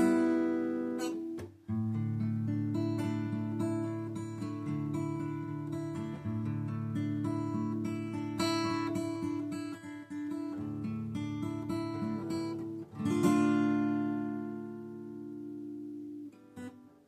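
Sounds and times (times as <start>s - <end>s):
acoustic guitar plucked notes: 0.0s - 17.0s.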